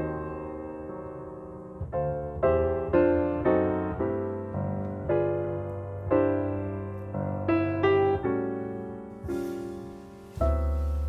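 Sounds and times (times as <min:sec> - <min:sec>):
slow piano piece: 0:00.0 - 0:11.0.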